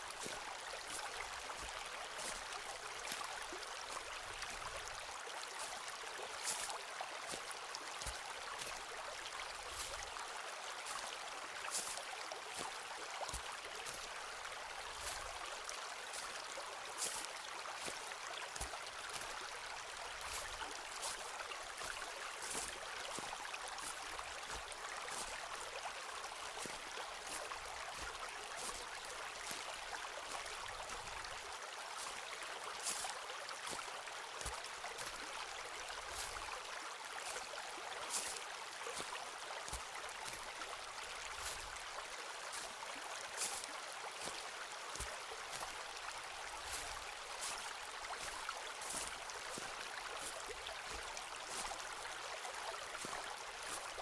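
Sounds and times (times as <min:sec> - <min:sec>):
footsteps on forest path: 0:00.0 - 0:54.0
running water: 0:00.0 - 0:54.0.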